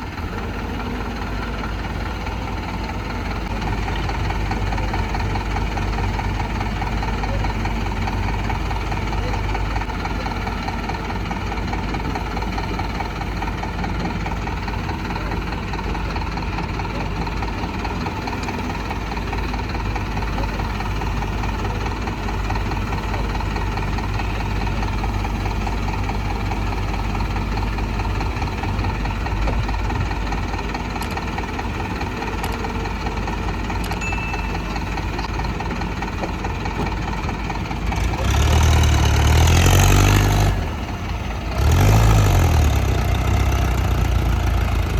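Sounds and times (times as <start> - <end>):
diesel engine idling and revving: 0.0 - 44.9.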